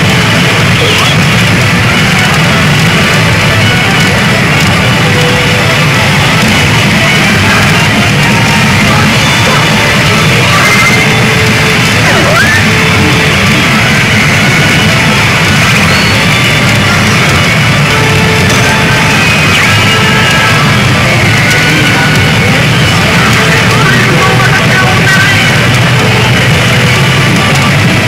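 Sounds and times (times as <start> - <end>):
pachinko machine music and effects: 0.0 - 28.0.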